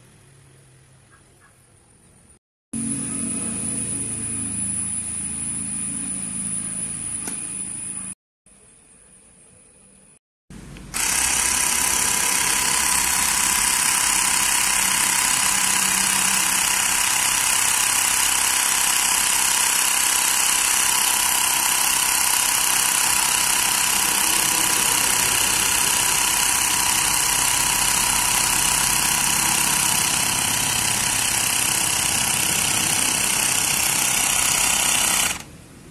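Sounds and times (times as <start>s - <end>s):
electric air compressor running: 2.8s - 8.2s, 10.5s - 35.6s.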